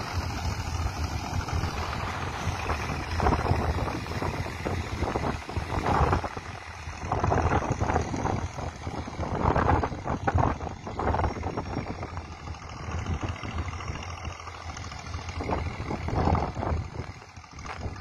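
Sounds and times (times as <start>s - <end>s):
passenger train rumbling and clattering: 0.0s - 18.0s
wind buffeting microphone: 0.0s - 18.0s.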